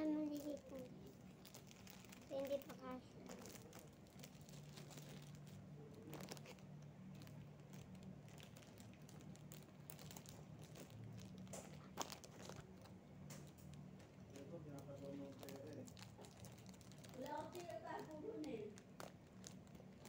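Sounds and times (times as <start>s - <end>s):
plastic wrappers crinkling: 0.0s - 20.0s.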